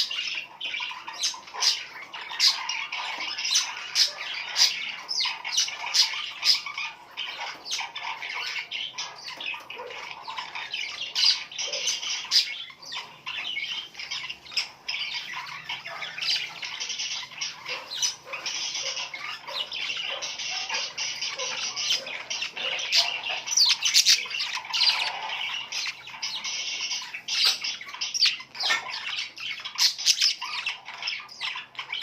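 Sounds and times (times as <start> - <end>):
flock of small birds chirping: 0.0 - 32.0.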